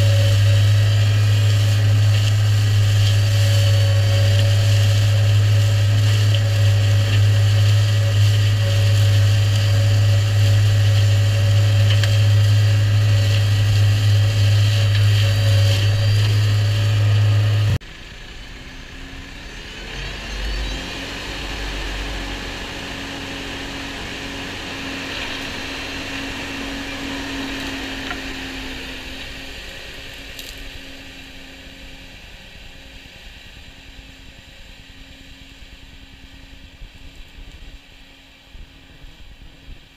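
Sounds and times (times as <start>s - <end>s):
flail hedge cutter running: 0.0s - 39.9s
tractor engine drone: 0.0s - 39.9s.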